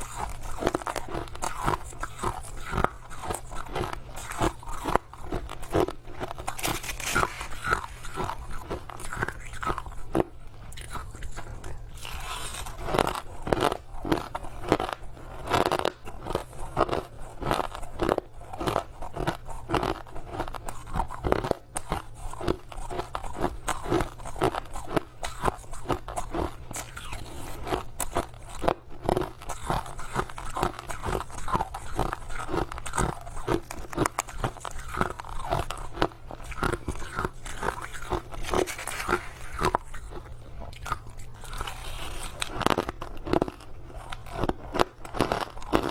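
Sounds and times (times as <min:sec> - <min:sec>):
crunching ice being chewed: 0:00.0 - 0:45.9.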